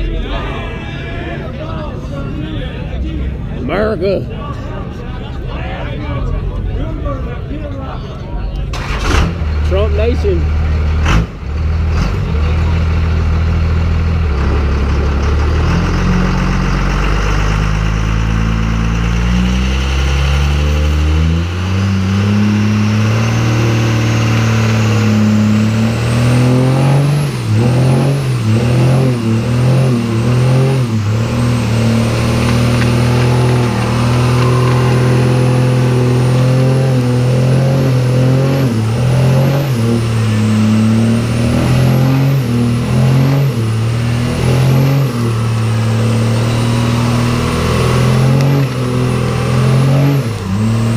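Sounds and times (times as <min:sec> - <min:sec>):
diesel truck engine revving: 0:00.0 - 0:50.9.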